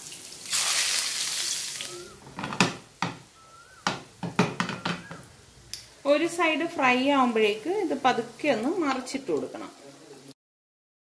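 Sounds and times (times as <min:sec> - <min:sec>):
food sizzling in hot oil: 0:00.0 - 0:10.4.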